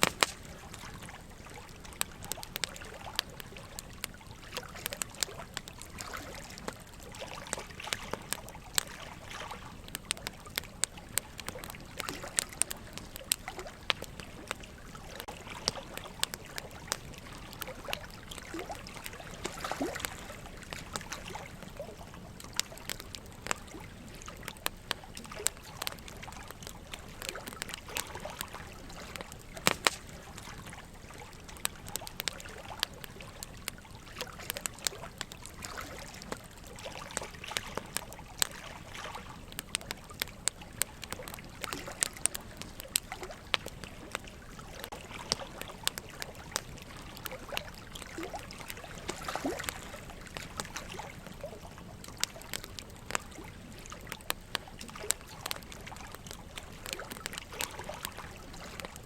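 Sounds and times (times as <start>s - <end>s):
running water trickling: 0.0s - 59.0s
wood fire crackling and popping: 0.0s - 59.0s.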